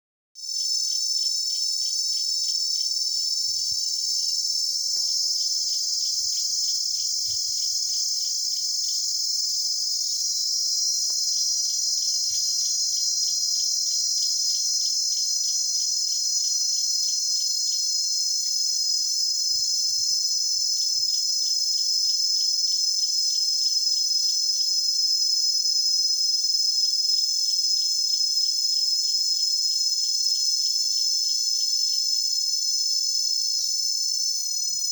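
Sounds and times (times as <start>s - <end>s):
cicadas and crickets chirping: 0.4s - 34.9s.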